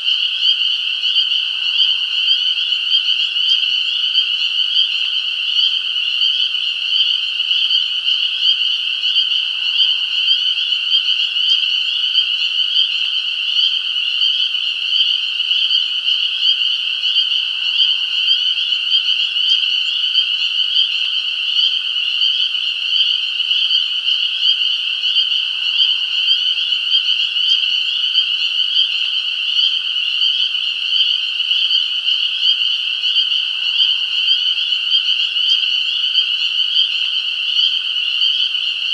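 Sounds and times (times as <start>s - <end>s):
chorus of frogs trilling: 0.0s - 38.9s.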